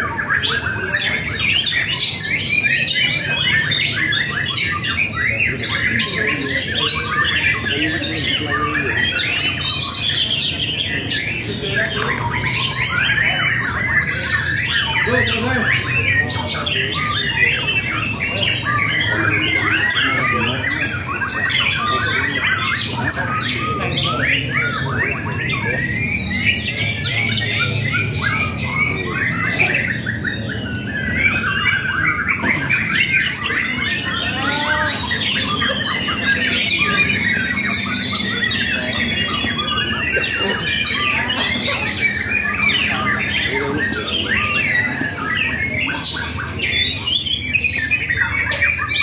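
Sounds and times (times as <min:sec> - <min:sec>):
songbirds singing: 0:00.0 - 0:49.0.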